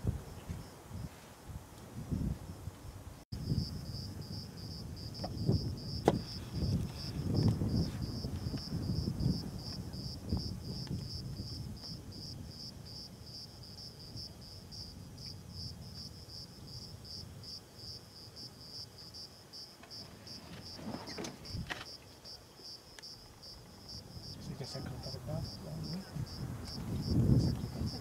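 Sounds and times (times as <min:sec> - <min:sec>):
insect chirping: 0:03.4 - 0:28.0.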